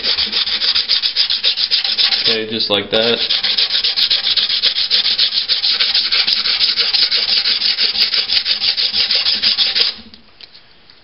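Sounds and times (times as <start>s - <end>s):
sandpaper rubbing back and forth: 0.0s - 10.0s.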